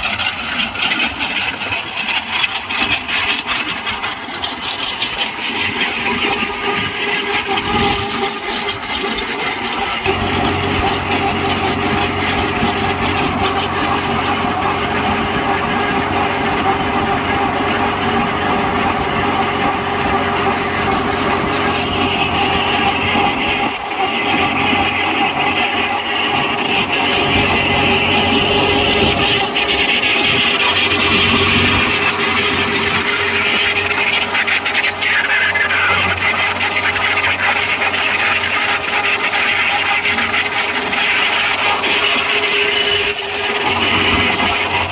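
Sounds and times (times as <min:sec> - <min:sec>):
chain trencher cutting soil: 0:00.0 - 0:44.9
tractor engine running: 0:00.0 - 0:44.9.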